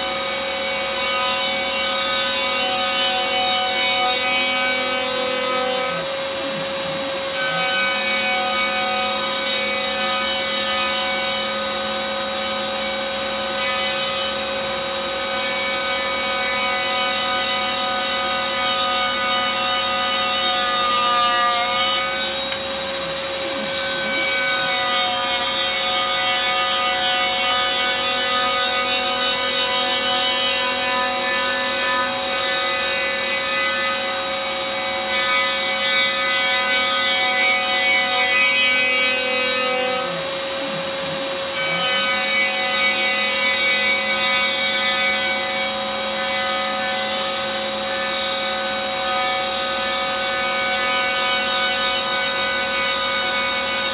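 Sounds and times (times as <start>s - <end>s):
rasping wood cutting: 0.0s - 53.9s
router spindle whine: 0.0s - 53.9s.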